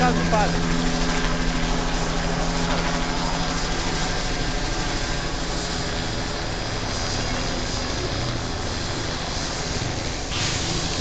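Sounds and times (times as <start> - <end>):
helicopter rotor noise: 0.0 - 11.0.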